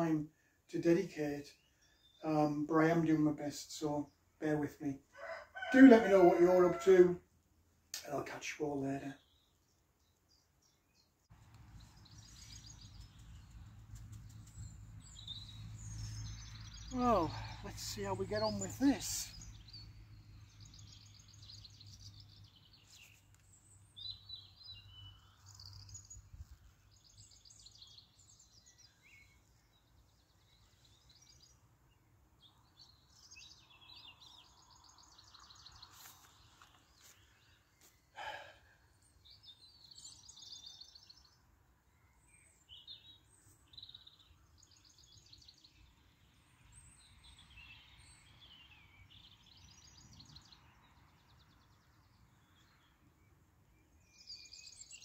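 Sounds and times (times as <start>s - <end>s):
faint songbirds singing: 0.0s - 55.0s.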